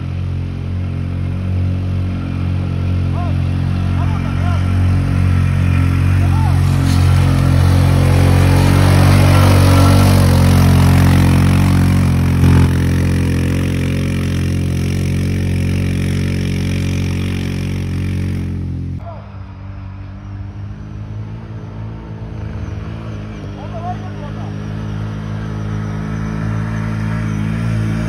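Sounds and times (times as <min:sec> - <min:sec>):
atv engine running: 0:00.0 - 0:19.0, 0:19.7 - 0:28.0.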